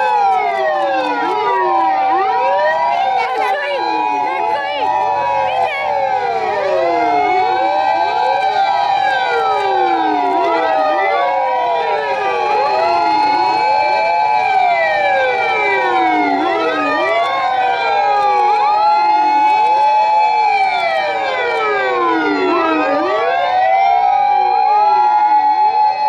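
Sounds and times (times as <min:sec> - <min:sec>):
fire engine sirens wailing: 0:00.0 - 0:26.0.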